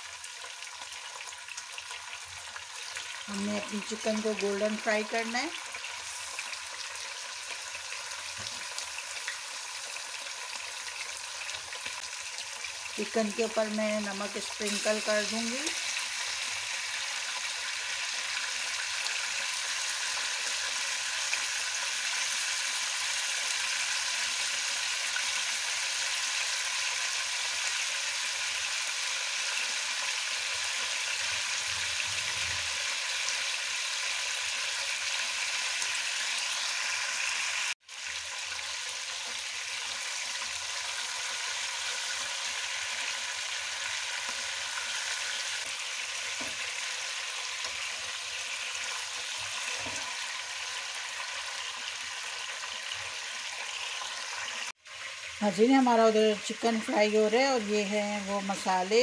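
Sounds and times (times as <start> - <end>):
chicken frying in ghee: 0.0 - 59.0.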